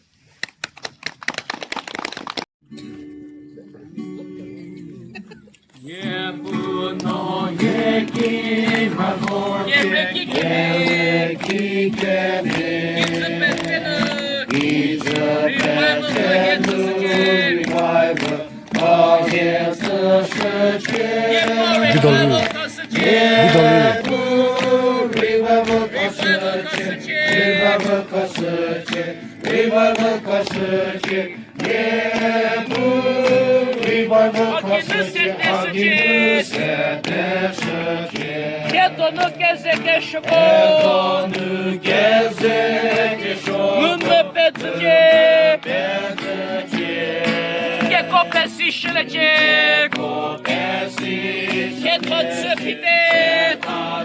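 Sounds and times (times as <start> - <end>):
group singing a chorus: 5.9 - 48.4, 49.4 - 54.0.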